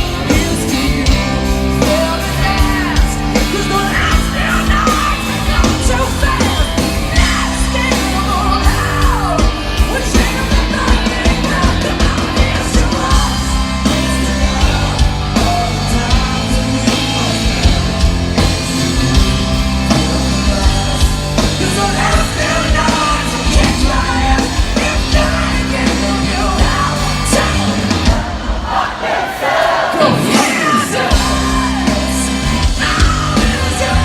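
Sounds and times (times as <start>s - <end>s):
heavy rock band playing: 0.0s - 34.0s
yelled sung vocals: 0.0s - 34.0s.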